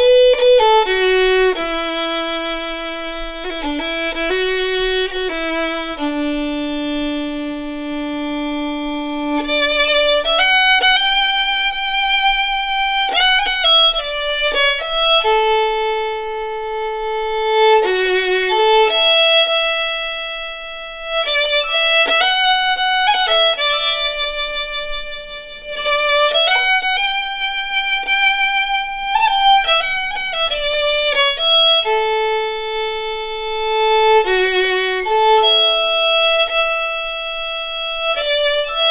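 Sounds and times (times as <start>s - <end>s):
solo fiddle slow melody: 0.0s - 38.9s.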